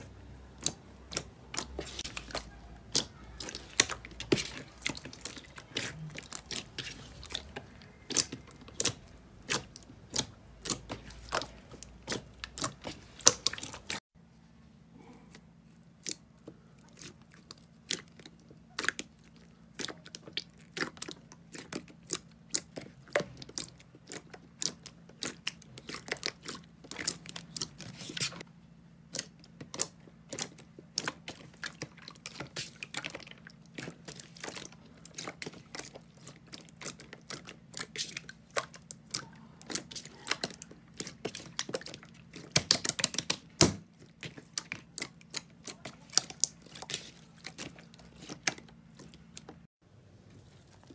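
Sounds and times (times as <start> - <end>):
slime squishing with wet pops: 0.0 - 14.1, 15.3 - 49.7.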